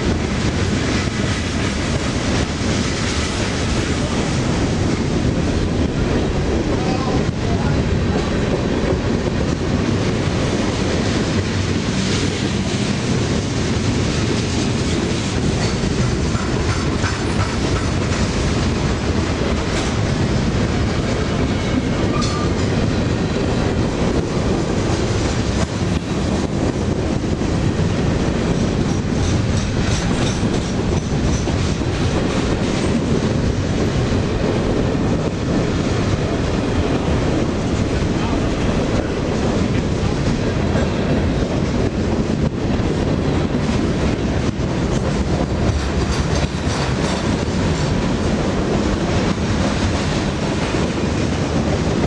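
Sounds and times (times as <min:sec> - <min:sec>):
steel wheels rumbling on rails: 0:00.0 - 0:52.0
wheels clacking over rail joints: 0:08.0 - 0:52.0.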